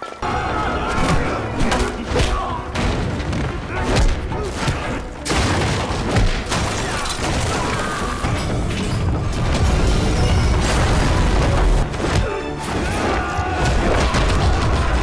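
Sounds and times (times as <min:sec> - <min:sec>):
dramatic music: 0:00.0 - 0:15.0
wooden structures crashing: 0:00.8 - 0:15.0.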